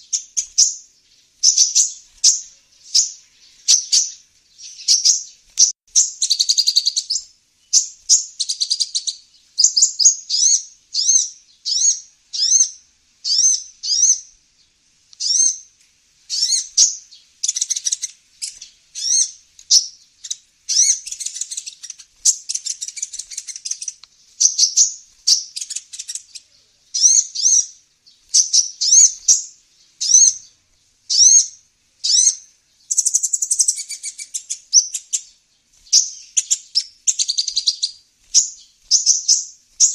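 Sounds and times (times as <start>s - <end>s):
sunbird chirping call: 0.0s - 39.9s.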